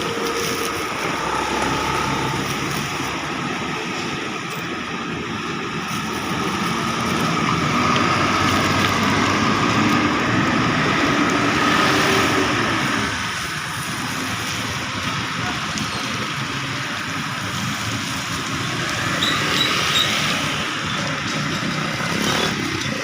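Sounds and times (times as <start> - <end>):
rain and spray hiss: 0.0 - 23.0
vehicle passing on wet road: 0.0 - 23.0.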